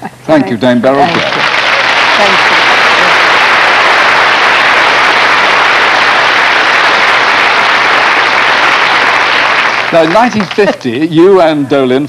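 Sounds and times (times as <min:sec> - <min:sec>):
audience applauding: 0:01.0 - 0:11.1.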